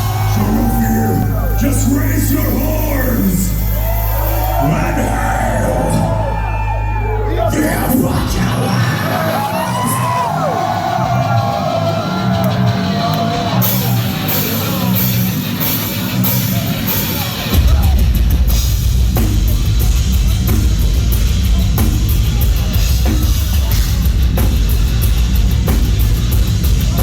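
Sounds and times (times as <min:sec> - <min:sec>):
heavy metal band playing: 0:00.0 - 0:27.0.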